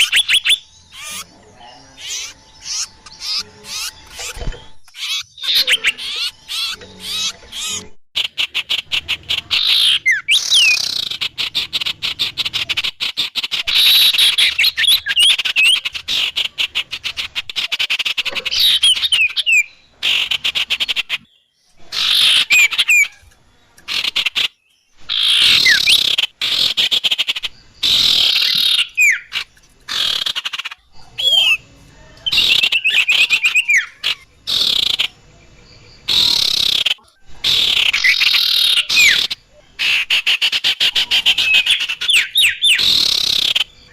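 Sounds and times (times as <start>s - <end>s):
songbirds chattering: 0.0s - 43.9s.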